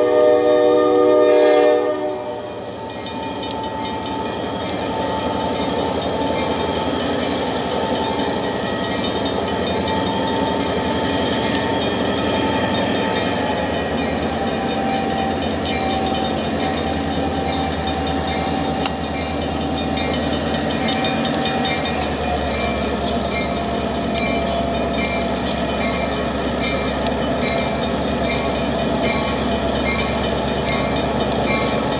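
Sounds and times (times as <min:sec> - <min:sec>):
light ticks from rolling train: 0:00.0 - 0:31.9
locomotive engine throbbing: 0:00.0 - 0:31.9.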